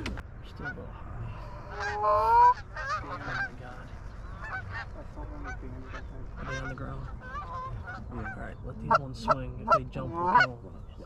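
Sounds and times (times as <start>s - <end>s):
goose honking: 1.5s - 10.6s.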